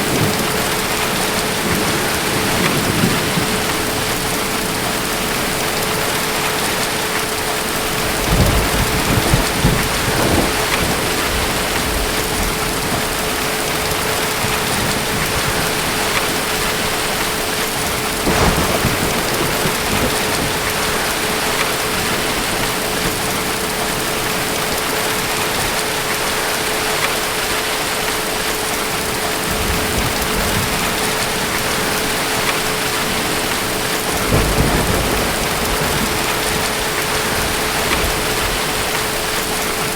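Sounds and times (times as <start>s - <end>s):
thunder rumbling: 0.0s - 27.4s, 28.7s - 39.9s
heavy rain: 0.0s - 39.9s.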